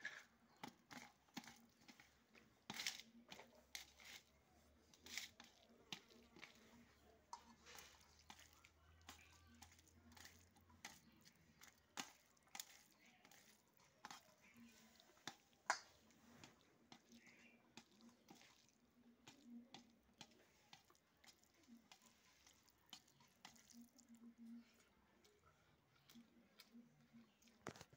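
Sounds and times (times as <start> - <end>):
fingers mixing food on steel plate: 0.0 - 27.9.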